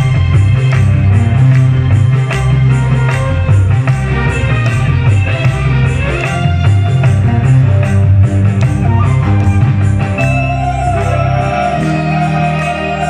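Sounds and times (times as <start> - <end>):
bass line: 0.0 - 13.0
live band instrumental: 0.0 - 13.0.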